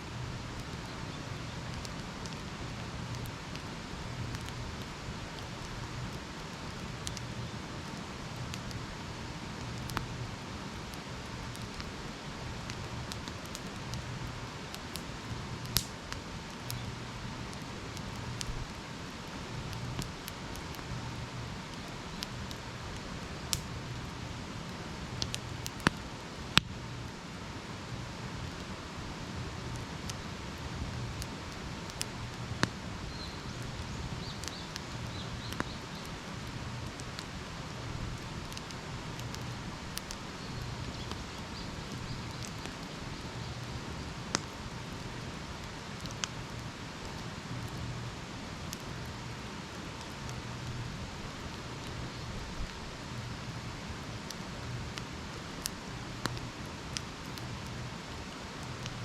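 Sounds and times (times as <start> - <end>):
wood campfire crackling: 0.0 - 59.0.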